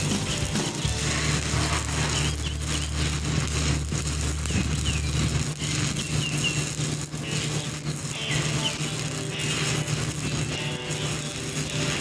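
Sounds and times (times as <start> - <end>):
welding arc crackling and sizzling: 0.0 - 12.0.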